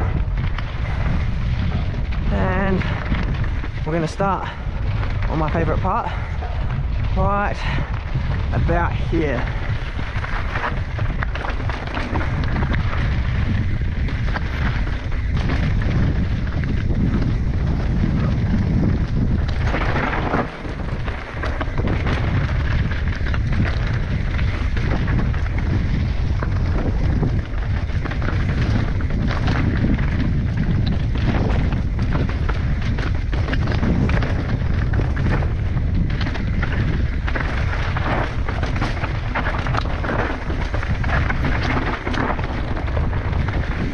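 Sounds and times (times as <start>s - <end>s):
bike rattling: 0.0s - 43.9s
tyres running over dirt and rock: 0.0s - 43.9s
wind buffeting microphone: 0.0s - 43.9s.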